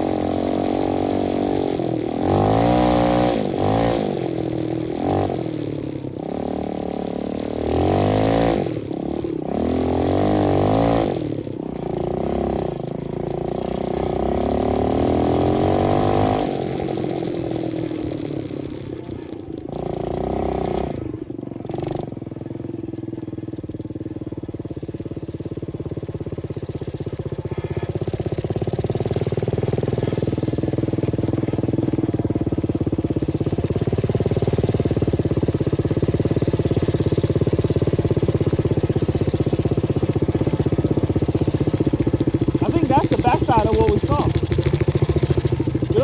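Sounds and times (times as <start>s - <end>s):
dirt bike engine running: 0.0s - 46.0s.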